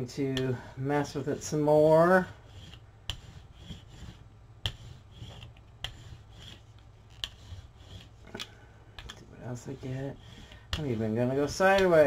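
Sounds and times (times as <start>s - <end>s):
hands and tools rubbing paper: 1.0s - 8.3s, 9.5s - 12.0s.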